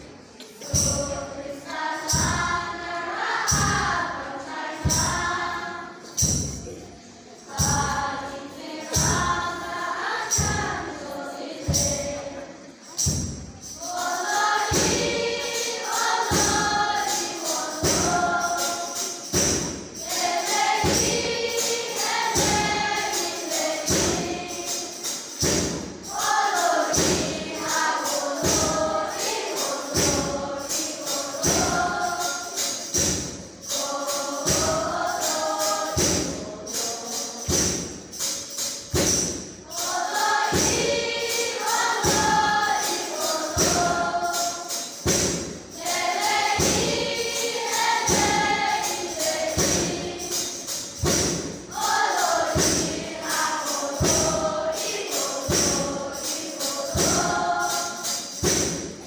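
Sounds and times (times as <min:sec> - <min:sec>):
children's choir singing a hymn: 0:00.0 - 0:59.0
steady percussive beat: 0:00.1 - 0:59.0.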